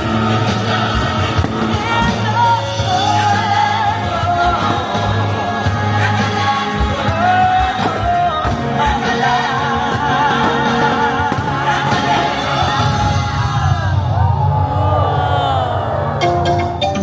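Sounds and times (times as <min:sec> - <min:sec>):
sustained bass: 0:00.0 - 0:17.0.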